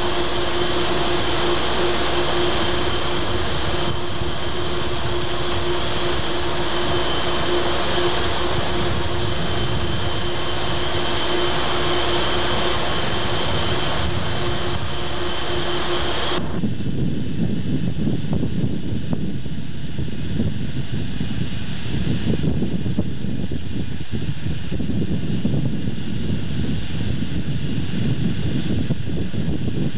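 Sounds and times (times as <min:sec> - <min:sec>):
constant hum: 0:00.0 - 0:29.9
wind roar: 0:00.0 - 0:29.9.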